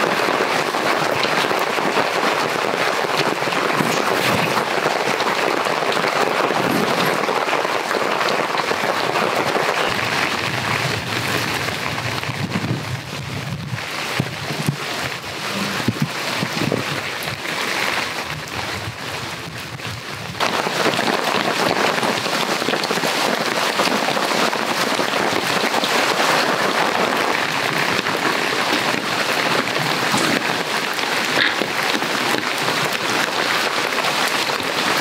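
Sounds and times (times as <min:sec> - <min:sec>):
heavy rain on a tarp: 0:00.0 - 0:35.0.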